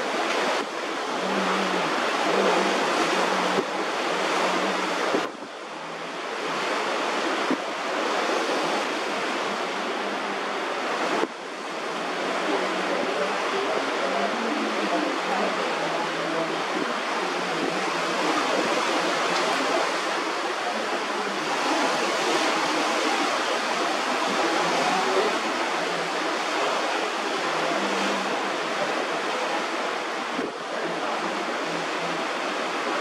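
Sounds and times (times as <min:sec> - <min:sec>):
water rushing: 0:00.0 - 0:33.0
wind noise: 0:00.0 - 0:33.0.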